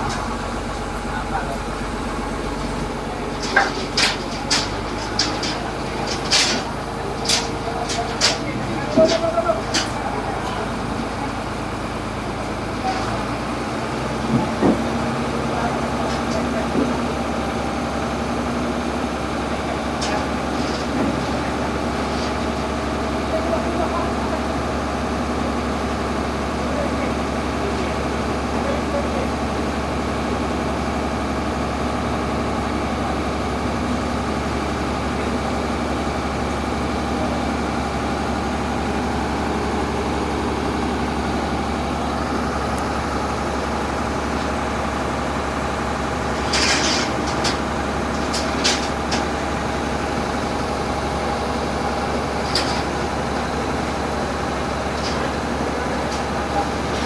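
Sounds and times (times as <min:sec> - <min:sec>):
heavy vehicle engine idling: 0:00.0 - 0:57.0.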